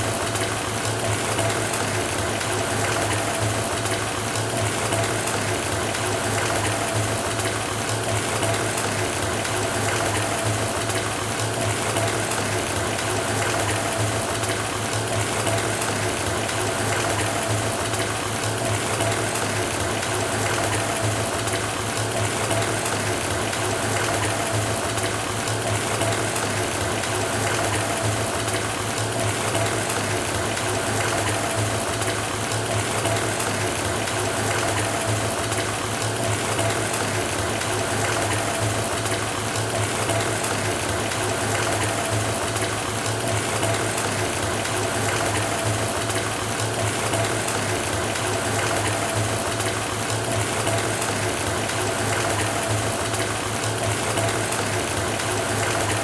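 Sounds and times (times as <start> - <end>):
water pouring into bathtub: 0.0 - 56.0.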